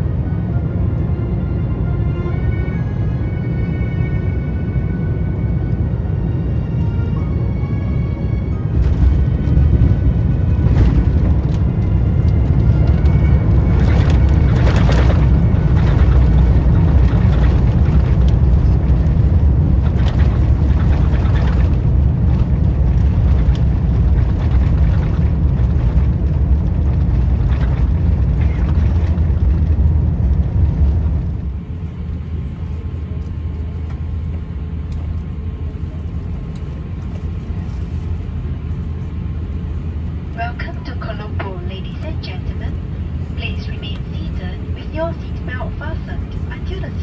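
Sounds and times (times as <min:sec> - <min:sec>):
aircraft engines and wheels rumbling: 0:00.0 - 0:47.0.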